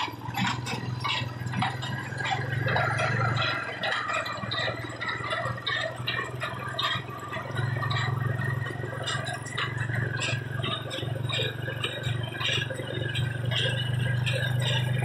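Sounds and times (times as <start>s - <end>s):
baler clanking and rattling: 0.0s - 15.0s
tractor engine drone: 0.0s - 15.0s.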